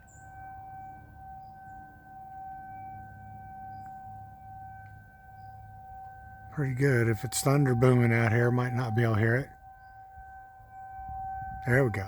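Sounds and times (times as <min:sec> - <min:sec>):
distant warning siren: 0:00.0 - 0:12.0.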